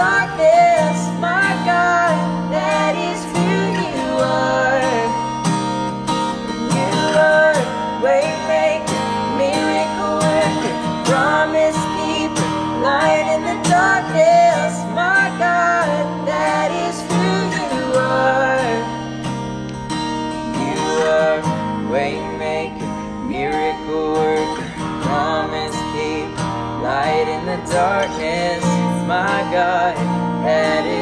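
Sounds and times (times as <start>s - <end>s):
man and woman singing: 0.0s - 5.5s, 6.5s - 19.3s, 20.4s - 31.0s
strummed acoustic guitar: 0.0s - 31.0s.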